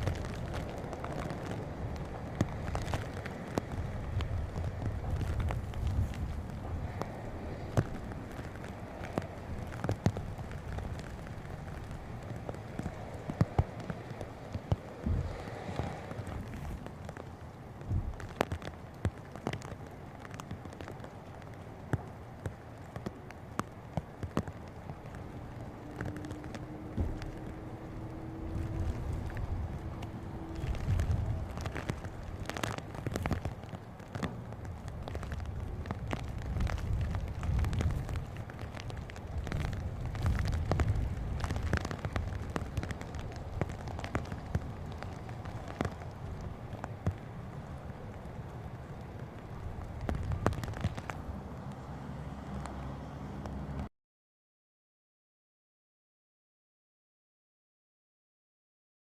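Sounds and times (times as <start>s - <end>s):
wind buffeting microphone: 0.0s - 52.8s.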